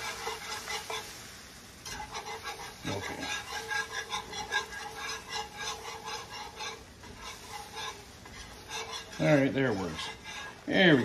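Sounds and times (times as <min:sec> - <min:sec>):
whisk scraping a skillet: 0:00.0 - 0:11.0.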